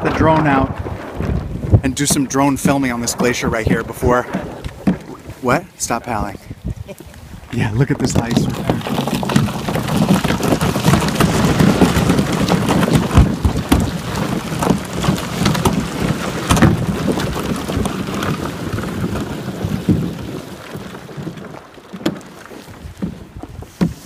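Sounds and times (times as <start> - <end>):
ice knocking against boat hull: 1.2 - 6.3, 7.6 - 24.0.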